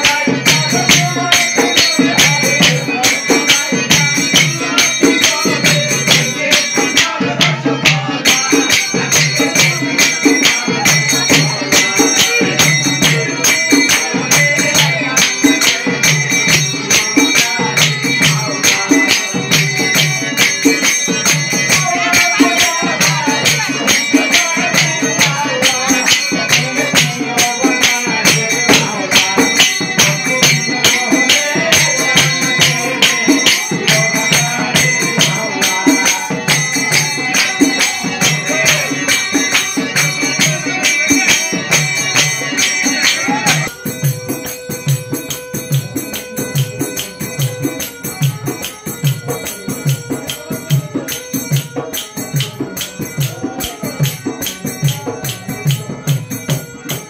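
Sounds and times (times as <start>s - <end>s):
jingling rattling percussion: 0.0s - 57.0s.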